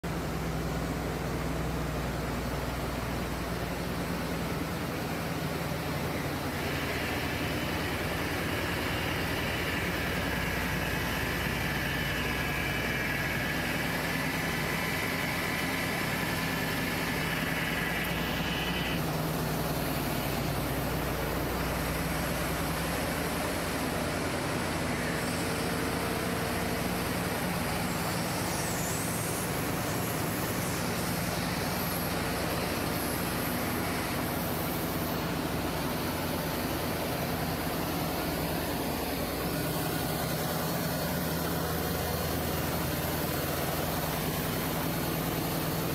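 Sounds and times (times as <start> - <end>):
diesel generators running: 0.0 - 45.9
high machinery whine: 0.0 - 45.9.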